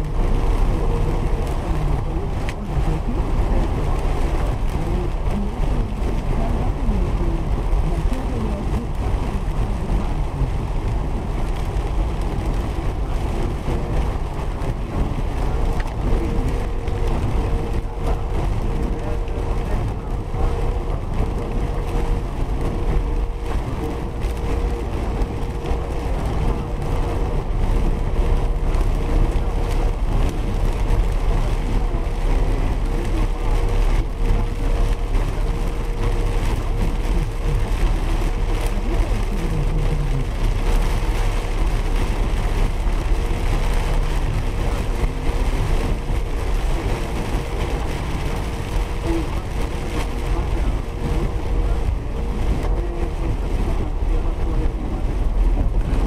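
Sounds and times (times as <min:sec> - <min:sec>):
car engine and tyres rumbling: 0:00.0 - 0:56.0
rain washing over windscreen: 0:00.0 - 0:56.0.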